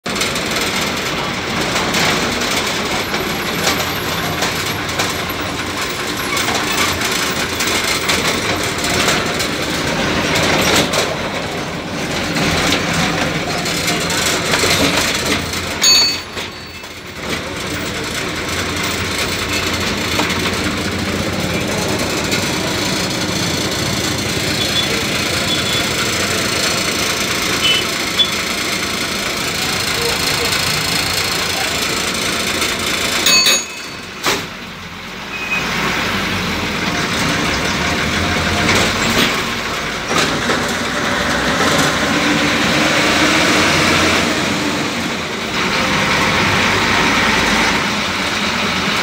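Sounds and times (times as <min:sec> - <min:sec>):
bus diesel engine running: 0:00.0 - 0:49.0
road noise: 0:00.0 - 0:49.0.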